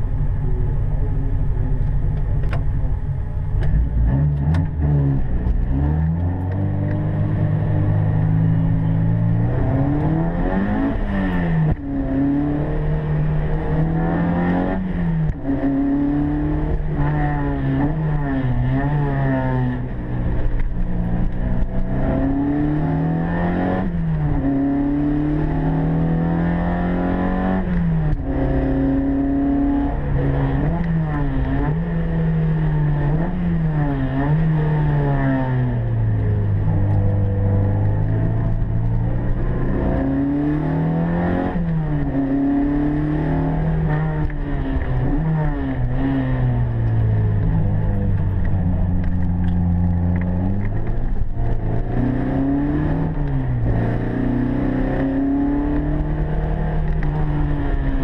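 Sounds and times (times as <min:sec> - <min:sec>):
car engine revving at full throttle: 0:00.0 - 0:58.0.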